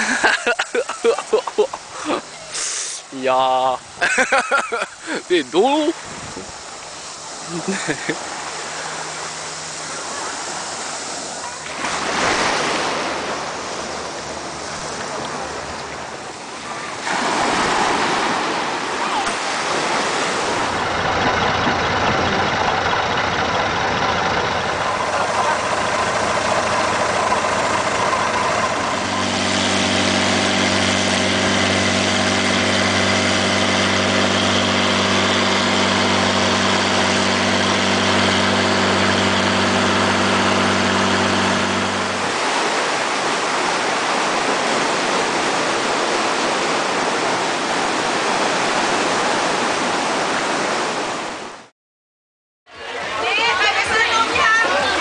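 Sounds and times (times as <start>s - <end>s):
boat engine droning: 0.0s - 51.7s, 52.7s - 55.0s
rushing surf: 0.0s - 51.7s, 52.7s - 55.0s
waves breaking on rocks: 0.0s - 51.7s
wind: 0.0s - 51.7s, 52.7s - 55.0s.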